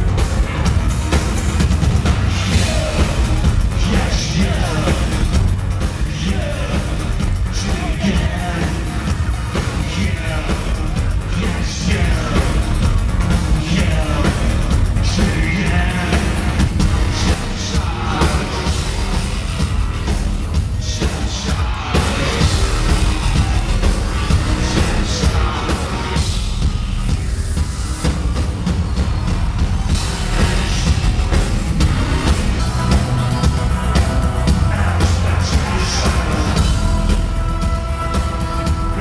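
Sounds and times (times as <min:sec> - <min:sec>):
live rock band: 0:00.0 - 0:39.0.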